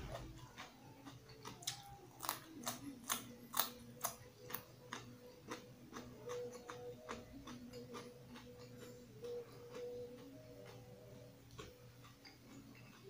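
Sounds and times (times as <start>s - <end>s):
chewing raw carrot crunching: 0.0s - 10.9s, 11.5s - 13.0s.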